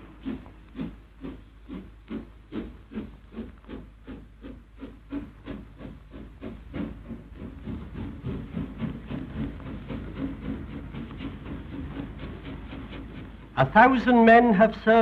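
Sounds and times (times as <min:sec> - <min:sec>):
low rumble and steam hiss: 0:00.0 - 0:15.0
steam locomotive exhaust chuffing: 0:00.0 - 0:15.0.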